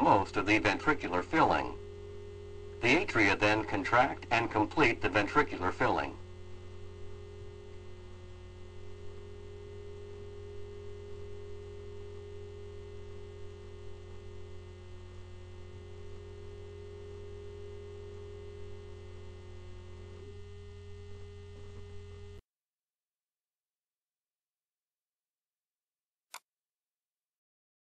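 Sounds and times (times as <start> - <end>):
electrical hum: 0.0 - 22.4.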